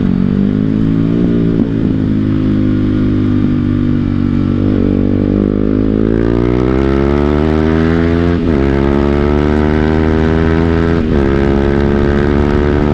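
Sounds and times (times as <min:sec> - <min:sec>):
motorcycle engine accelerating: 0:00.0 - 0:12.9.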